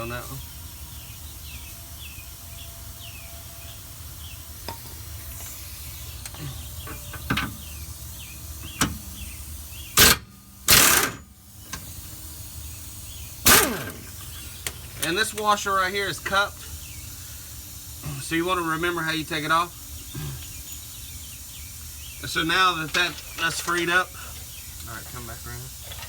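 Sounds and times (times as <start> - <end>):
impact wrench bursts: 4.5 - 26.0.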